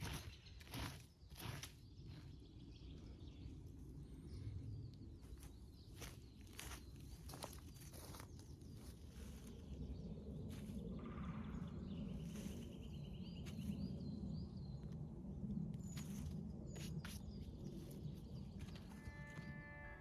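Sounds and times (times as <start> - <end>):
steady low rumble: 1.6 - 20.0.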